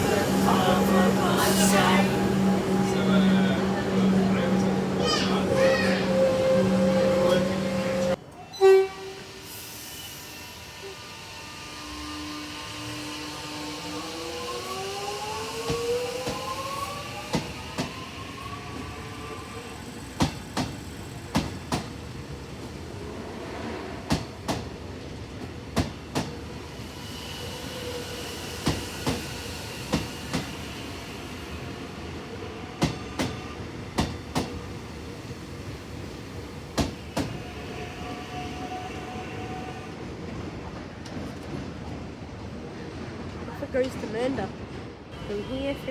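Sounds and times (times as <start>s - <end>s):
train traction motors whining: 0.0s - 23.1s, 26.1s - 41.2s
train rumble: 0.0s - 45.9s.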